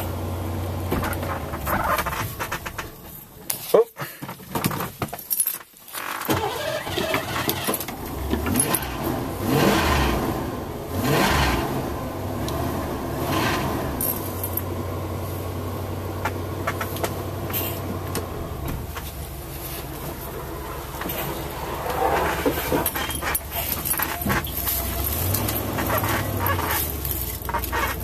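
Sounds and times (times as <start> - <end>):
engine revving and idling: 0.0 - 3.0, 6.6 - 28.0.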